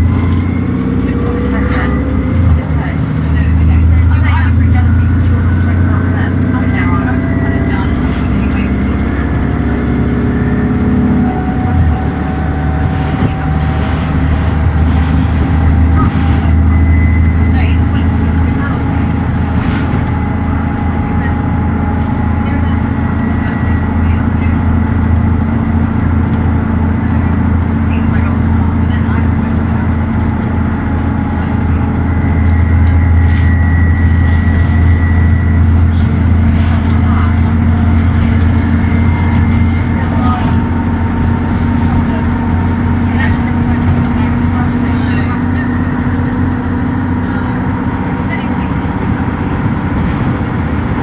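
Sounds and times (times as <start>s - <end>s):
bus diesel engine running: 0.0s - 51.0s
high steady whine: 0.0s - 51.0s.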